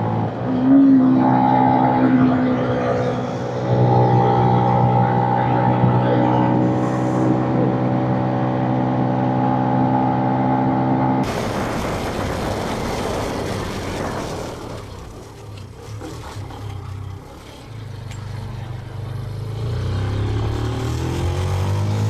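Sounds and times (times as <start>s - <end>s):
motorcycle engine: 0.9s - 22.0s.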